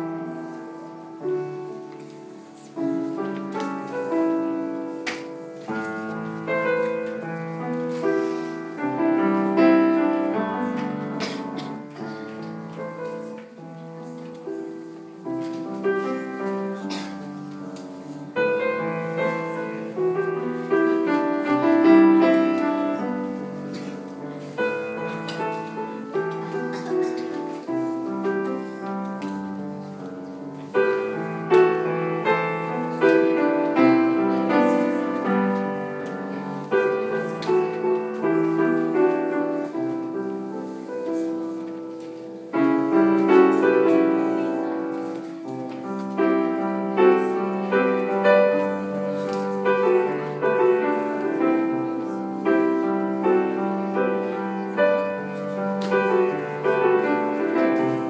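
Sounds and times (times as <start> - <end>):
solo piano ballad: 0.0 - 58.0.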